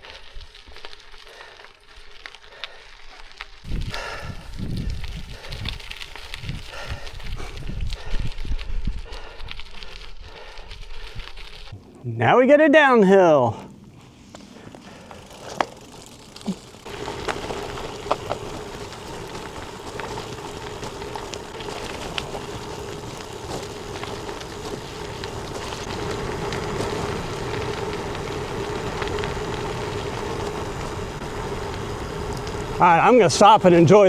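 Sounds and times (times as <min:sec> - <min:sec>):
bike tyres crunching on gravel: 0:00.0 - 0:12.0, 0:13.0 - 0:34.0.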